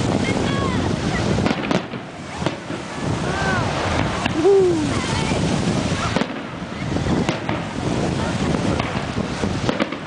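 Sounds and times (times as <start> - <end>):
fireworks rumbling: 0.0 - 10.0
sharp firework bangs: 0.0 - 10.0
wind on microphone: 0.0 - 10.0.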